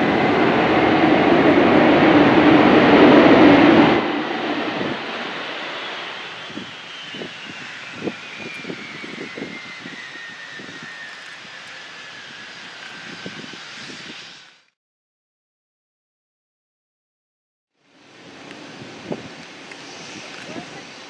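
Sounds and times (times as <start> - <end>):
jet engines roaring: 0.0 - 14.7, 17.8 - 21.0
jet engine whine: 0.0 - 14.8, 17.8 - 21.0.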